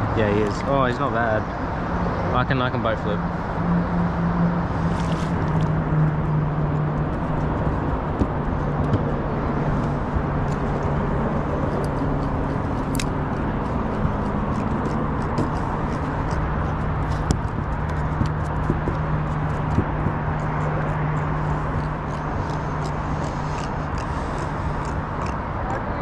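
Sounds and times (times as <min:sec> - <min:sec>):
low motor hum: 0:00.0 - 0:26.0
rushing noise: 0:01.0 - 0:25.5.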